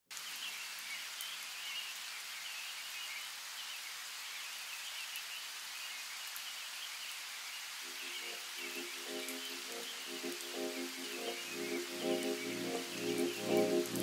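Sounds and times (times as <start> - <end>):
rain hissing: 0.1 - 14.0.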